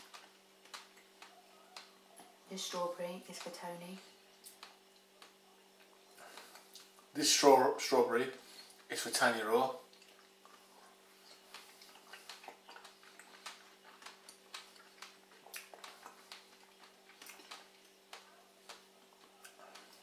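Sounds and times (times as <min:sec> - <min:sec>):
wet chewing clicks: 0:00.0 - 0:02.3, 0:03.3 - 0:07.1, 0:09.8 - 0:20.0
faint low hum: 0:00.0 - 0:20.0.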